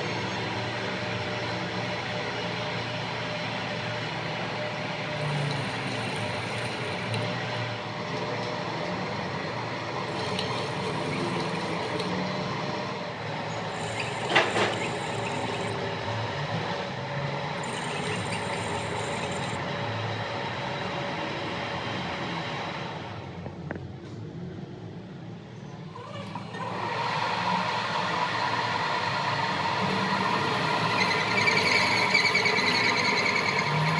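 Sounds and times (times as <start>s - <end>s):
workshop machinery running: 0.0s - 24.2s, 26.1s - 33.9s.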